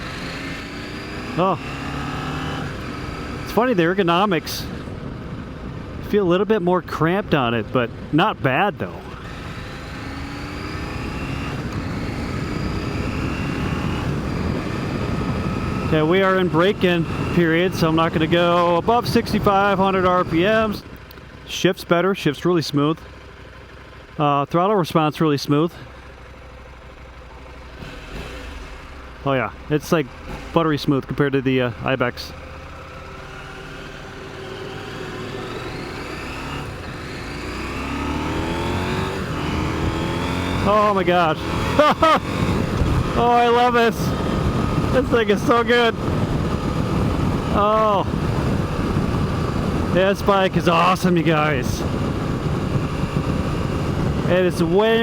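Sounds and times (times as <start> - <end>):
motorcycle engine accelerating: 0.0 - 6.2, 8.8 - 21.5, 25.8 - 55.0.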